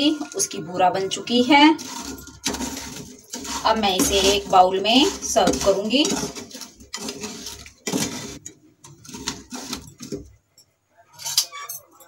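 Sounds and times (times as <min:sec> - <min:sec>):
metal spoon scraping frying pan: 0:01.1 - 0:10.3, 0:11.1 - 0:11.9.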